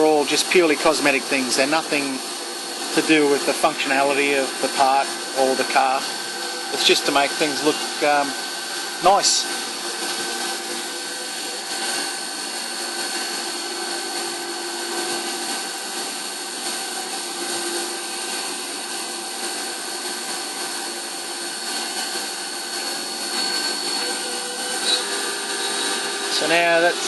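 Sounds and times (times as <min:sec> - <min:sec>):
milling machine hiss and whine: 0:00.0 - 0:27.0.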